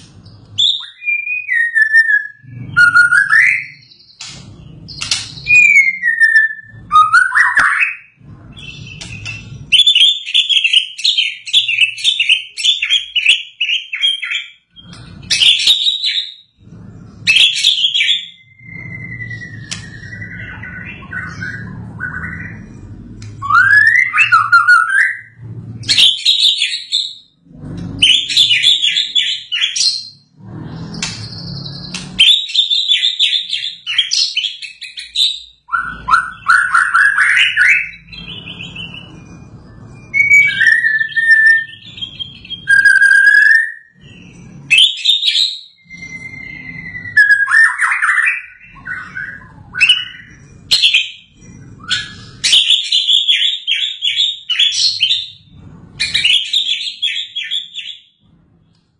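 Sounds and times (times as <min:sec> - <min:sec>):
bird singing trills and whistles: 0:00.1 - 0:58.3.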